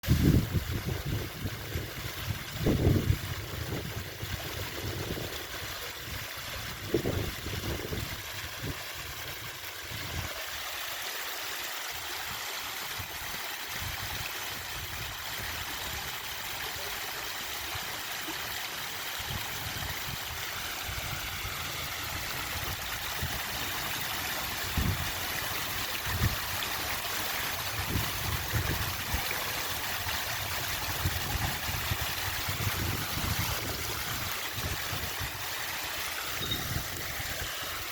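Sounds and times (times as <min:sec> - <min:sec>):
fountain water splashing: 0:00.0 - 0:37.9.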